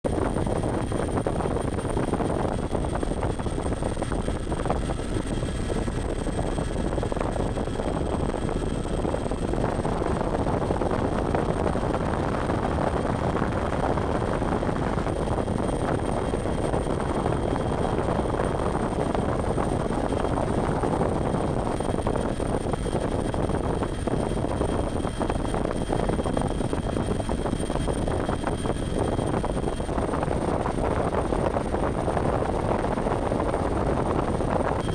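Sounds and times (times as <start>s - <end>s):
faint high whine: 0.1s - 34.9s
helicopter engine and rotor: 0.1s - 34.9s.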